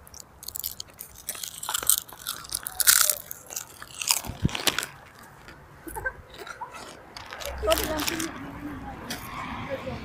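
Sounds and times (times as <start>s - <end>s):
crunching and crackling: 0.0s - 8.5s.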